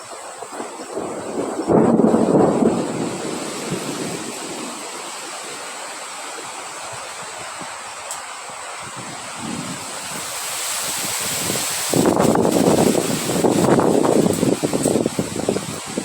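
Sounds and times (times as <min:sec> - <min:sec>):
wind blowing: 0:00.0 - 0:16.0.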